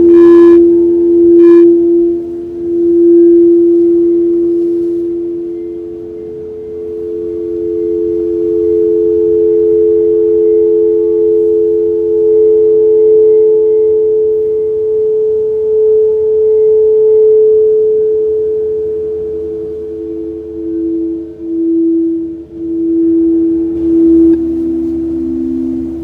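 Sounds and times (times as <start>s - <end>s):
singing bowls ringing: 0.0s - 26.0s.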